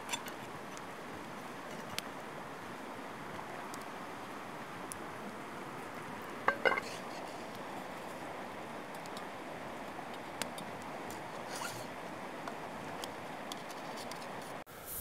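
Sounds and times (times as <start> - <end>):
food sizzling over coals: 0.0 - 15.0.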